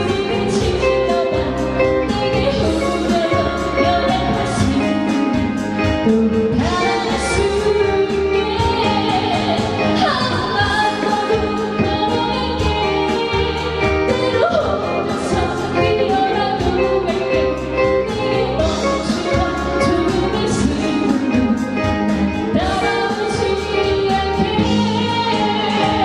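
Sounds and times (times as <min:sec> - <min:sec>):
instrumental accompaniment chords: 0:00.0 - 0:26.0
woman singing: 0:00.0 - 0:26.0.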